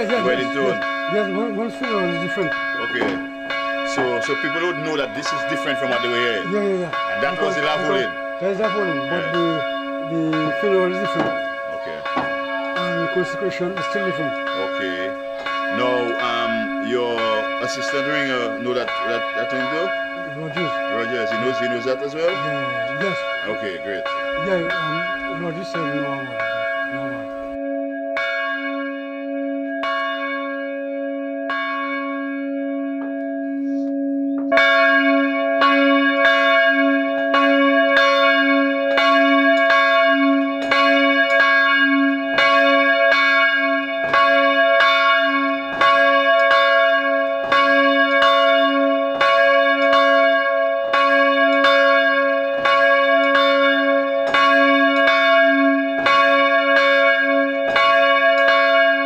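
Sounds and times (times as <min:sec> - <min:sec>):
large church bell ringing: 0:00.0 - 0:59.0.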